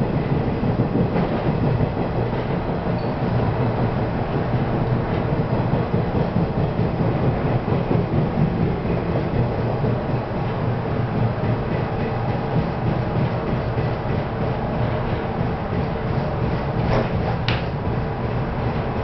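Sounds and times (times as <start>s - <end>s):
train traction equipment: 0.0s - 19.0s
train wheels rumbling on rail: 0.0s - 19.0s.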